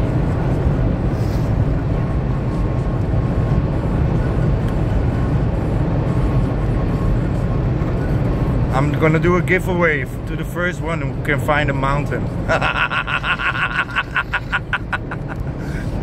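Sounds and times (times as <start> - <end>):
car cabin road and engine rumble: 0.0 - 16.0.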